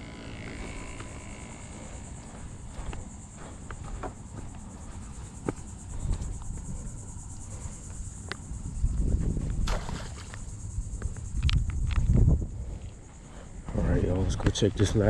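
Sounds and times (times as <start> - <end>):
insect trilling: 0.0 - 15.0
wind rumble on microphone: 0.0 - 15.0.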